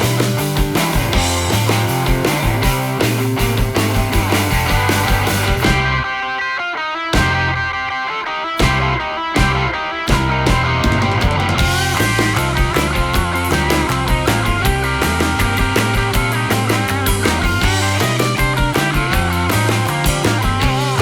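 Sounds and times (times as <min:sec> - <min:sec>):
upbeat rock music: 0:00.0 - 0:21.0.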